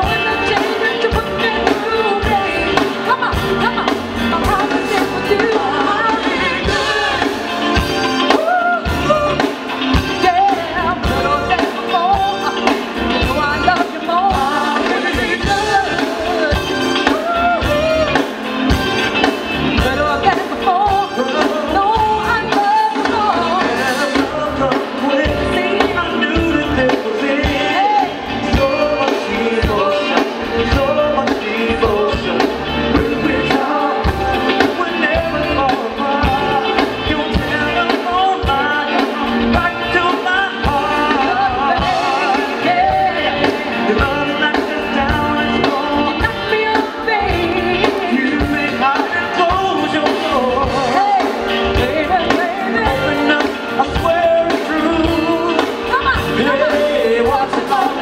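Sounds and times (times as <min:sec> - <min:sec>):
bass guitar: 0:00.0 - 0:58.0
drum kit: 0:00.0 - 0:58.0
keyboards: 0:00.0 - 0:58.0
person singing: 0:00.0 - 0:58.0.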